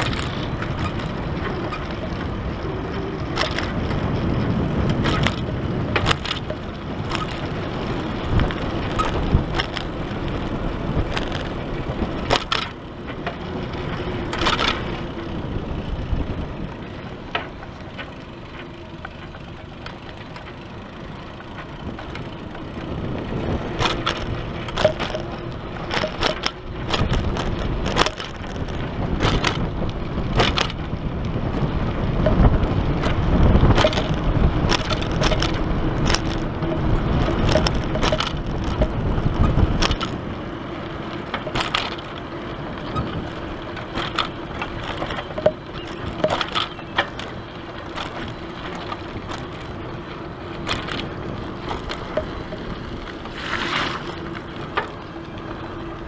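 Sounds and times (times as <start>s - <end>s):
bicycle rolling on pavement: 0.0s - 56.0s
bike clicks and rattles: 0.0s - 56.0s
wind buffeting microphone: 0.0s - 56.0s.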